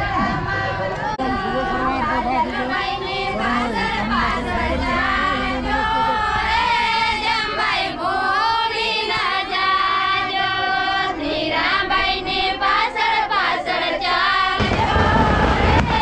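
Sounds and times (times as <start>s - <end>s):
women singing together: 0.0s - 16.0s.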